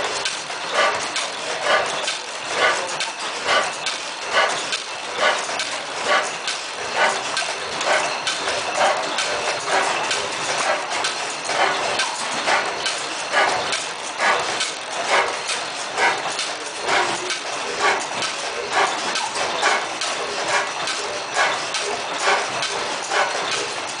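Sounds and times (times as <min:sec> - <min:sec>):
stationary gas engine running: 0:00.0 - 0:24.0
valve gear clicking: 0:00.0 - 0:24.0.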